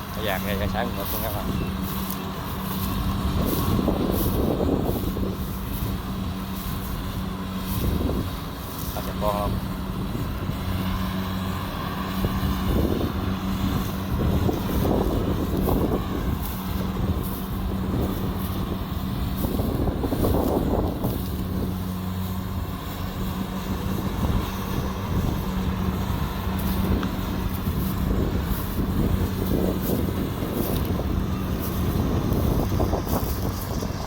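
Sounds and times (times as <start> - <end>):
combine harvester engine running: 0.0 - 34.0
machinery rattling: 0.0 - 34.0.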